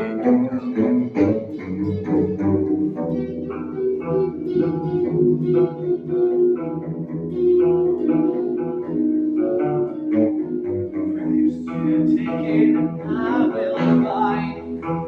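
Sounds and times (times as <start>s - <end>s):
bass notes: 0.0s - 15.0s
guitar plucking notes: 0.0s - 15.0s.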